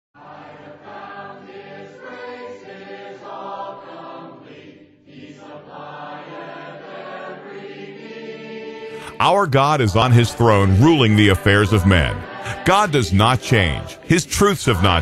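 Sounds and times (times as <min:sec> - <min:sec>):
choir singing: 0:00.2 - 0:15.0.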